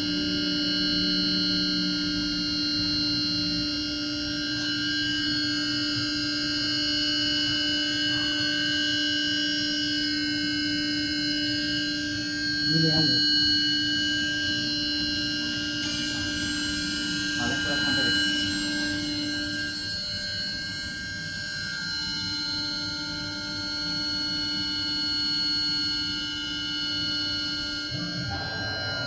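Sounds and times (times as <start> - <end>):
router spindle whine: 0.0 - 29.0.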